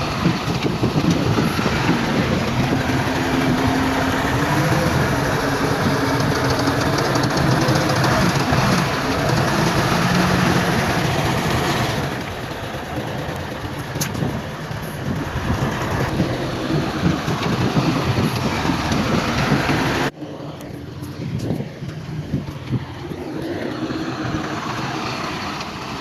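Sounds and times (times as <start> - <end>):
earthmoving machinery diesel engine: 0.0 - 26.0.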